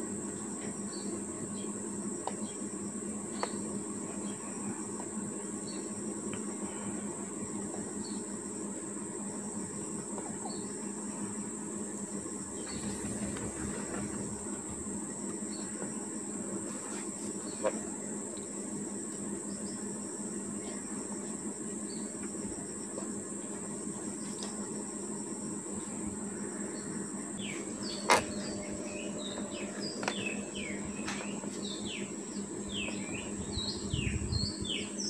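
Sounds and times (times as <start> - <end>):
insects trilling: 0.0 - 35.0
low steady hum: 0.0 - 35.0.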